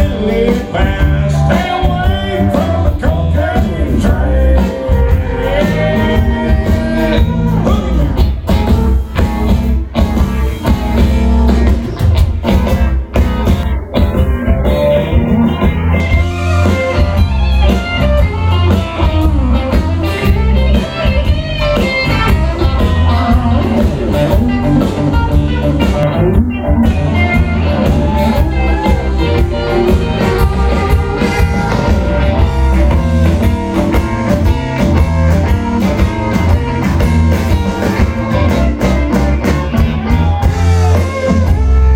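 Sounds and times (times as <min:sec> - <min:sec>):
country-rock band playing: 0:00.0 - 0:41.9.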